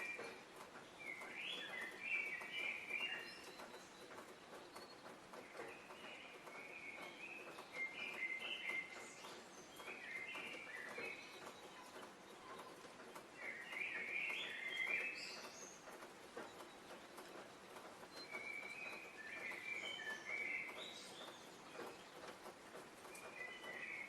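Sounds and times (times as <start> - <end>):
songbirds warbling: 0.0 - 22.2.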